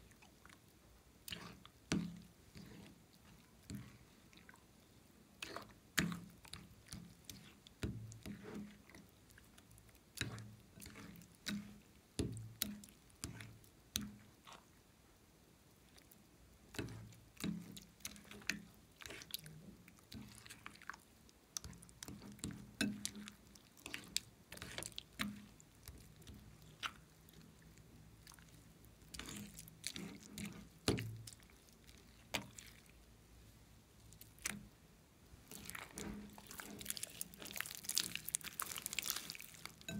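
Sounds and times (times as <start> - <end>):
slime stirred with spatula: 0.0 - 14.8, 15.8 - 39.9.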